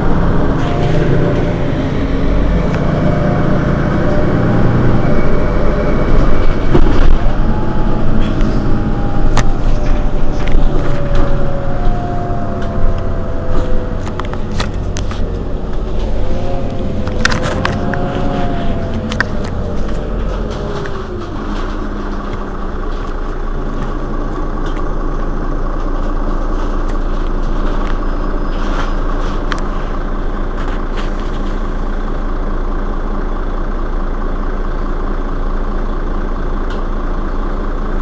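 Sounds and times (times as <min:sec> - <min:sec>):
bus diesel engine idling: 0:00.0 - 0:38.0.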